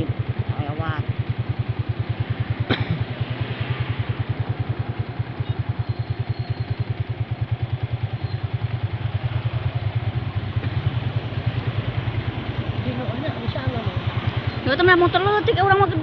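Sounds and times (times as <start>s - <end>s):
road noise: 0.0s - 16.0s
vehicle engine low throb: 0.0s - 16.0s.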